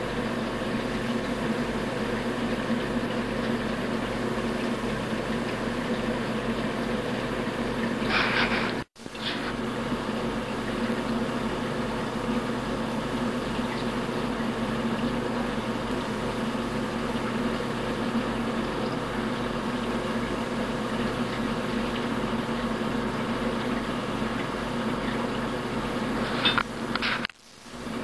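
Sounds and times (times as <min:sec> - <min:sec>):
machine hum with held tones: 0:00.0 - 0:28.0.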